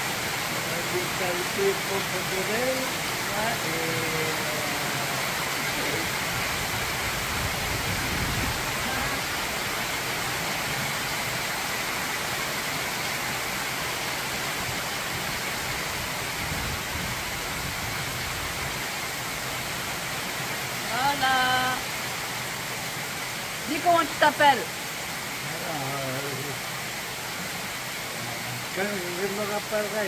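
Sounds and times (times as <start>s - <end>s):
heavy rain hissing: 0.0s - 30.0s.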